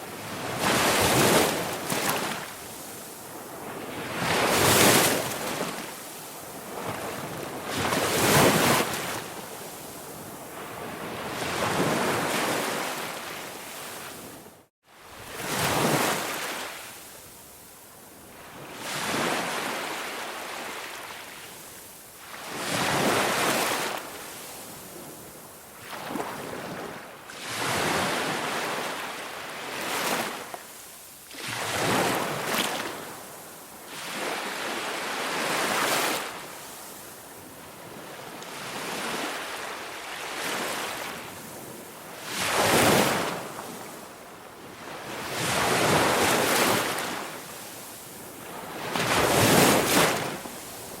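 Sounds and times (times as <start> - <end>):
sea waves breaking on shore: 0.0 - 17.5, 18.3 - 51.0.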